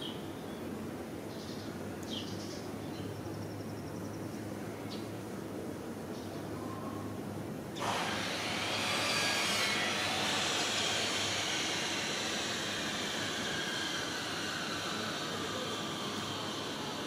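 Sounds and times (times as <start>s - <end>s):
distant engine rush with whine: 0.0s - 17.0s.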